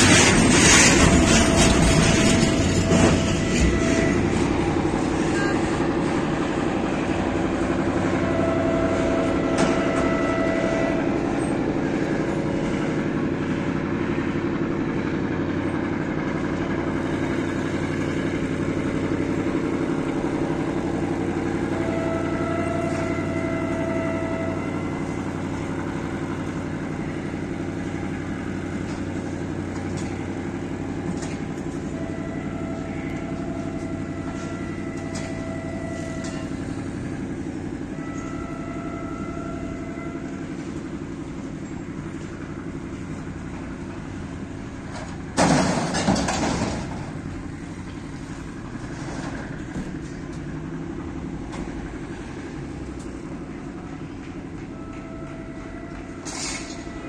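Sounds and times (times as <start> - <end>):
distant locomotive horn blasts: 0.0 - 44.6, 49.9 - 57.0
freight train rumble: 0.0 - 57.0.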